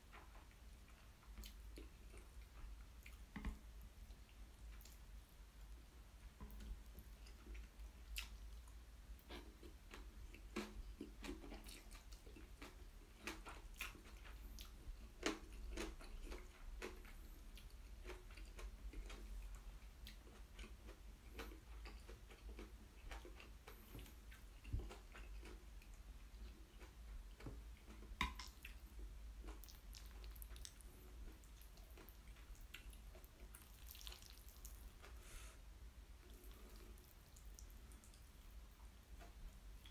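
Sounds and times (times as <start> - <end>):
close chewing mouth sounds: 0.1 - 5.1, 6.4 - 35.4, 36.2 - 39.9.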